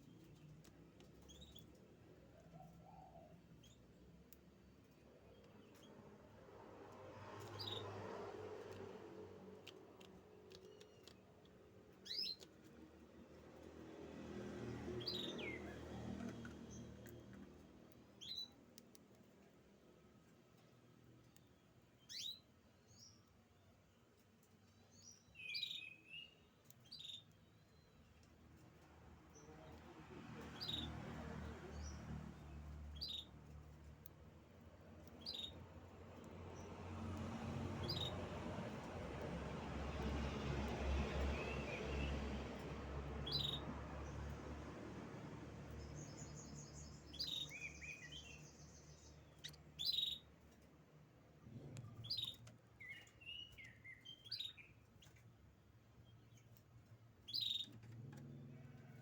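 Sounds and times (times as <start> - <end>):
canary chirping: 0.0 - 6.4, 7.3 - 13.8, 14.6 - 19.1, 21.4 - 23.2, 24.9 - 50.7, 51.5 - 59.0.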